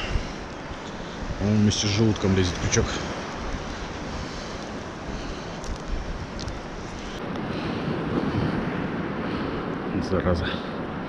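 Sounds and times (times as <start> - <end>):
sea surf: 0.0 - 11.0
wind buffeting microphone: 0.0 - 11.0.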